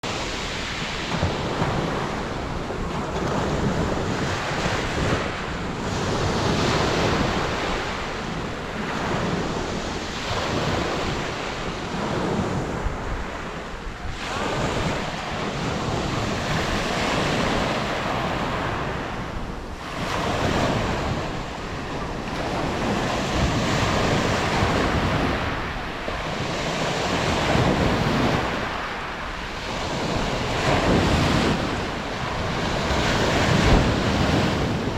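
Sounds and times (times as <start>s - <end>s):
surf washing onto beach: 0.0s - 34.9s
wind rumbling on microphone: 0.0s - 34.9s.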